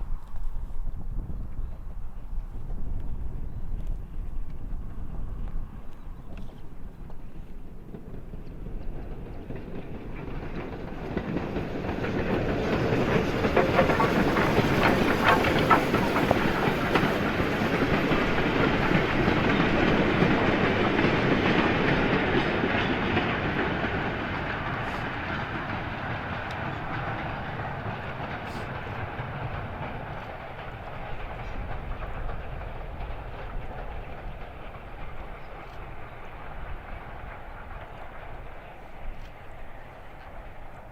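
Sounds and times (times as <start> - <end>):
train wheels clattering: 3.8 - 40.9.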